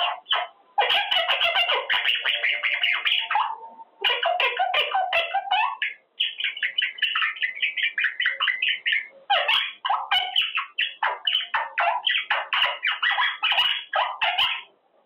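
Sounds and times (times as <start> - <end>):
parrot chattering: 0.0 - 14.7.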